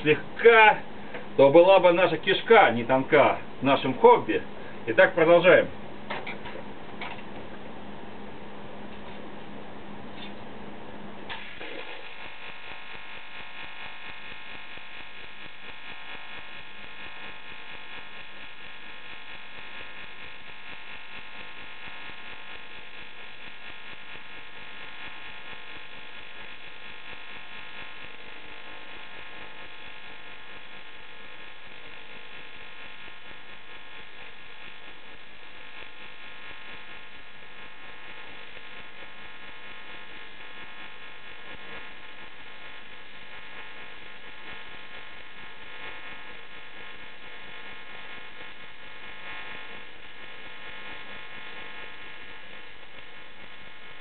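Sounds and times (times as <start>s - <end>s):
welding arc buzzing: 0.0s - 54.0s.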